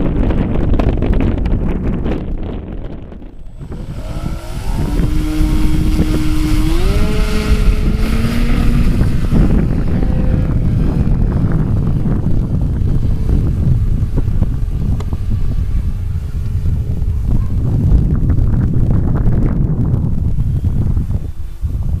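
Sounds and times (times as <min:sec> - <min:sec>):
wind noise on microphone: 0:00.0 - 0:22.0
model airplane motor running: 0:03.1 - 0:21.8.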